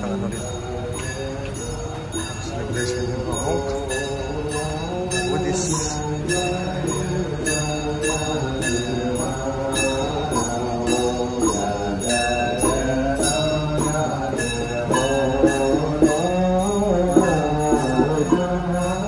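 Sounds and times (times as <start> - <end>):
bell-like ring: 0.0 - 19.0
chanting: 0.0 - 19.0
steady percussive beat: 3.3 - 19.0.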